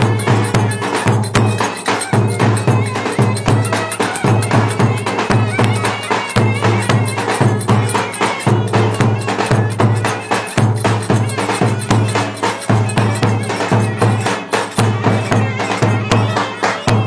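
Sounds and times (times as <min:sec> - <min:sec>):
clarinets playing dance music: 0:00.0 - 0:17.0
steady drum beat: 0:00.0 - 0:17.0.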